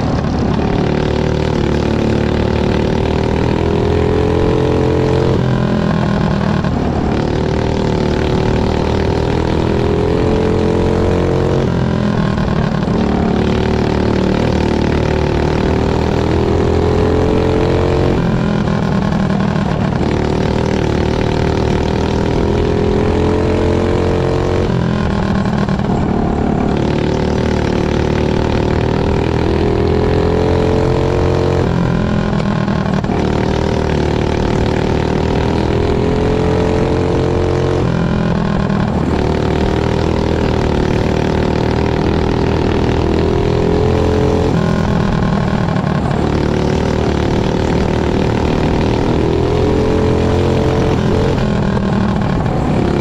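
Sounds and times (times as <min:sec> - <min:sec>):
kart engine running hard: 0:00.0 - 0:53.0.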